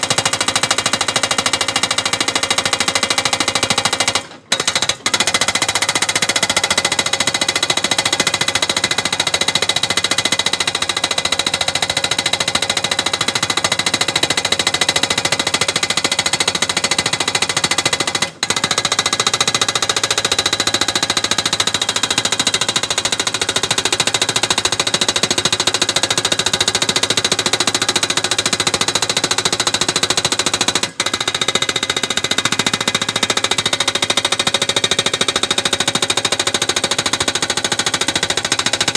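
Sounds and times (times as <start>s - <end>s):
rapid mechanical hammering: 0.0s - 38.9s.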